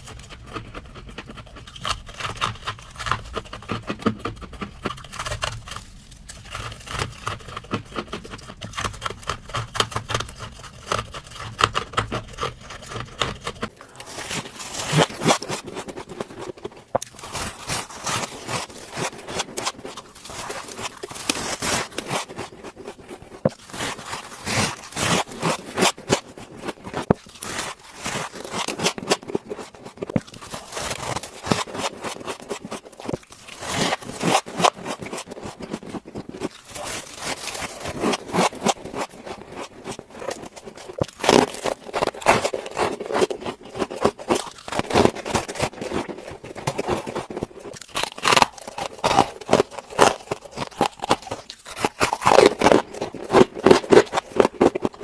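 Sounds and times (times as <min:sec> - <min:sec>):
ice being scraped: 0:00.0 - 0:55.0.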